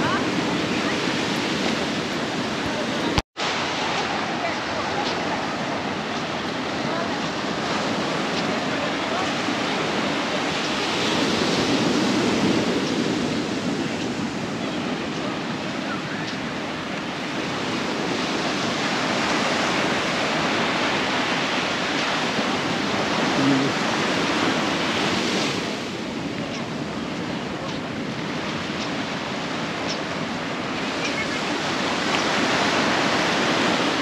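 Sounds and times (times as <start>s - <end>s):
surf washing up a beach: 0.0s - 34.0s.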